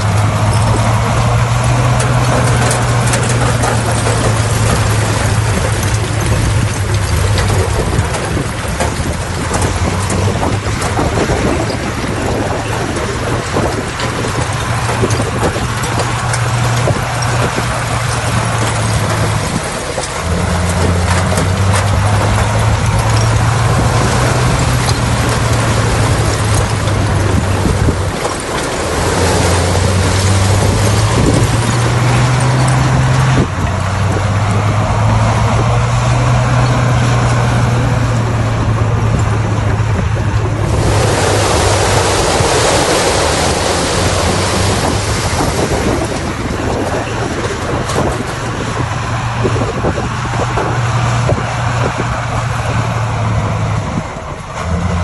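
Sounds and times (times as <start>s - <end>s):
bulldozer diesel engine droning: 0.0s - 55.0s
rushing machine noise: 0.0s - 55.0s.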